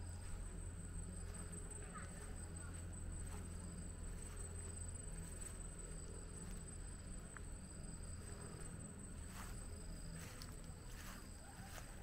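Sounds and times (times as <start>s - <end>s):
insects droning: 0.0s - 12.0s
low steady rumble: 0.0s - 12.0s.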